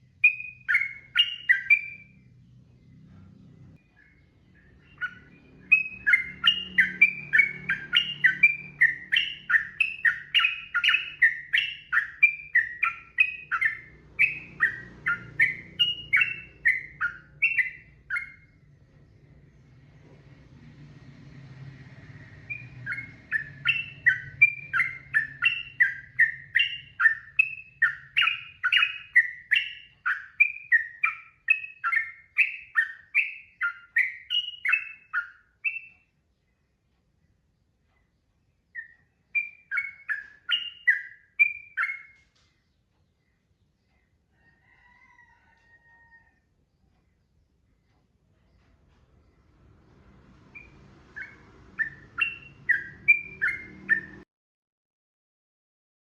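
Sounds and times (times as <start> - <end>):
bird warbling song: 0.0 - 45.0, 46.7 - 54.2.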